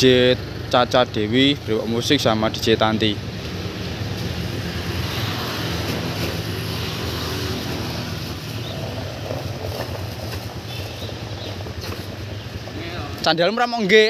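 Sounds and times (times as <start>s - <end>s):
motorcycle engine idling: 0.0s - 5.3s, 6.5s - 13.9s.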